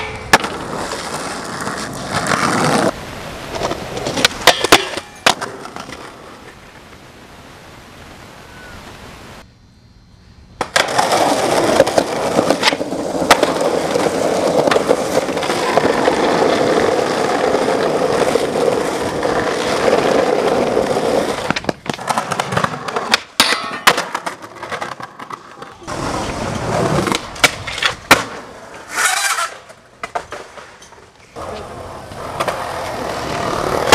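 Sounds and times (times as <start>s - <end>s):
skateboard clacking on ground: 0.0s - 7.0s, 10.6s - 33.9s
skateboard wheels rolling on pavement: 0.0s - 33.9s.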